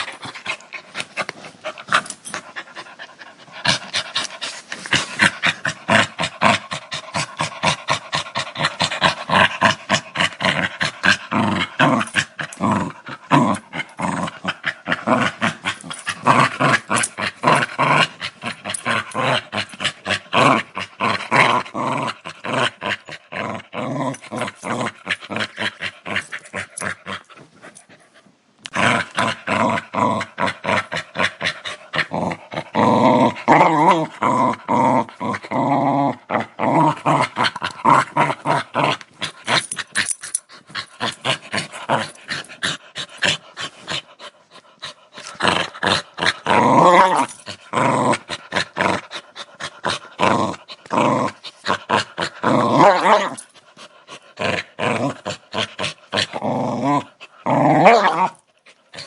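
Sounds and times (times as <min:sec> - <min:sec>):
dog growling: 0:00.0 - 0:27.9, 0:28.6 - 0:59.0.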